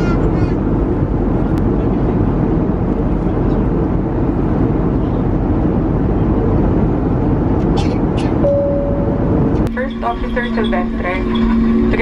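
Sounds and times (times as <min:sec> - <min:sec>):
airliner cabin noise: 0:00.0 - 0:12.0.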